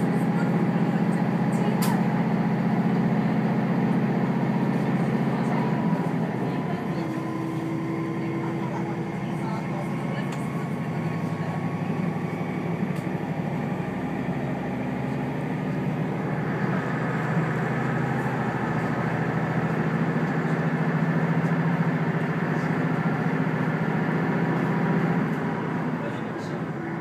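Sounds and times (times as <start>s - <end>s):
diesel engine drone: 0.0s - 27.0s
wheels rumbling on rail: 0.0s - 27.0s.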